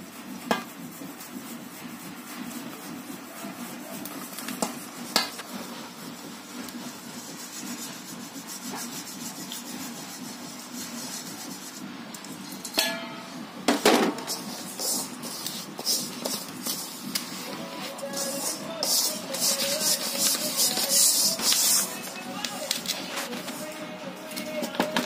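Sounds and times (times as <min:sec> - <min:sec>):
flour rubbing through metal sieve: 0:00.0 - 0:11.9, 0:14.1 - 0:24.7.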